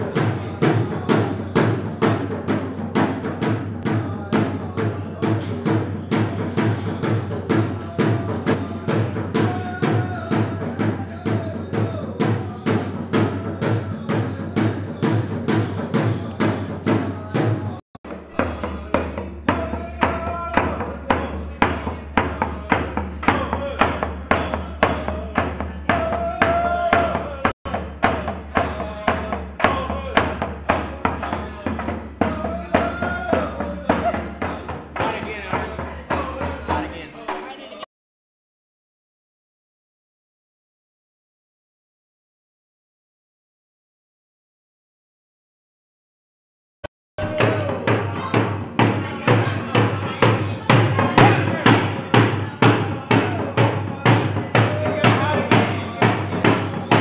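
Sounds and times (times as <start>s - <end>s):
drums beating fast rhythm: 0.0s - 37.4s, 47.2s - 57.0s
voices singing: 0.0s - 37.9s, 47.2s - 57.0s.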